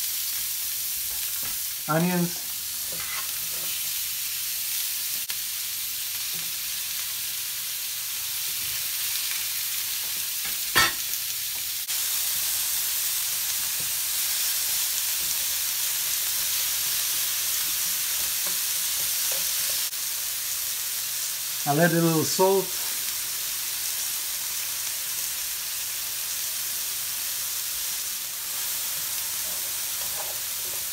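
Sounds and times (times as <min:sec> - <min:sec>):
vegetables sizzling on a griddle: 0:00.0 - 0:30.9.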